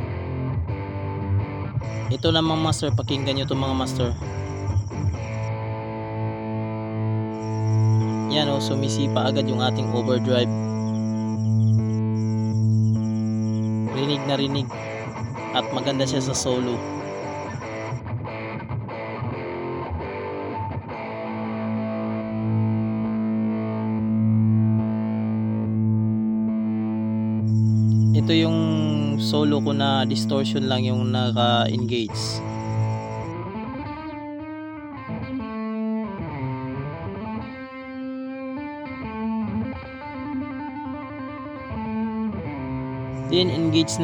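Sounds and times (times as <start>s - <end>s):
distorted electric guitar: 0.0s - 44.0s.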